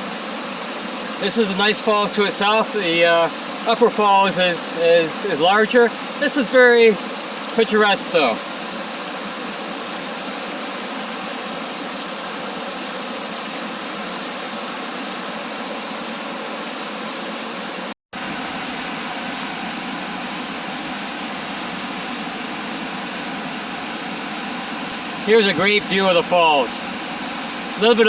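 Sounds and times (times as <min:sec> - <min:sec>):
rush of falling water: 0:00.0 - 0:28.0.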